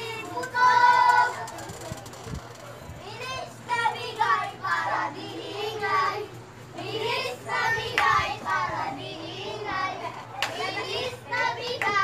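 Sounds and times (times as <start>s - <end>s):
child singing: 0.0s - 1.5s, 3.0s - 12.0s.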